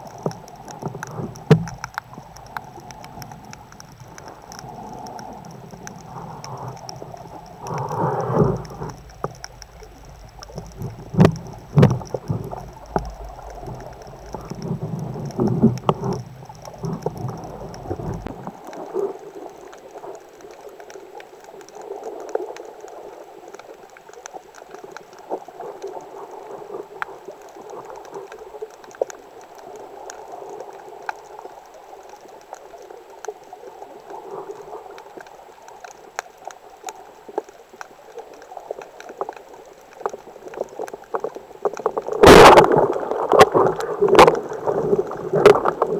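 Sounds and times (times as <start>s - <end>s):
faint clicks and crackles: 0.0s - 45.9s
muffled underwater hiss: 0.0s - 45.9s.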